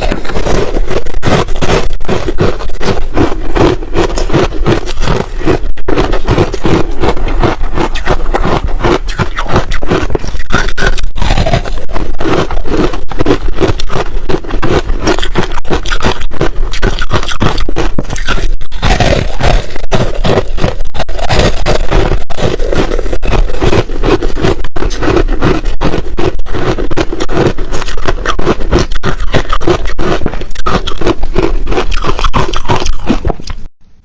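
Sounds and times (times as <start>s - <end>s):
ice being chewed: 0.0s - 33.7s.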